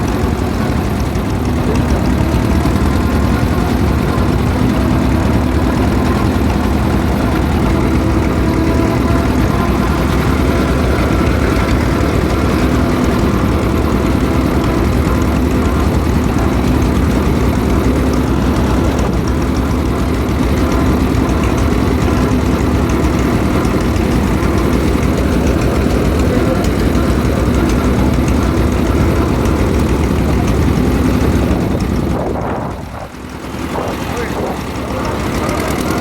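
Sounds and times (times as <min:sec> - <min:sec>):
engine low rumble: 0:00.0 - 0:36.0.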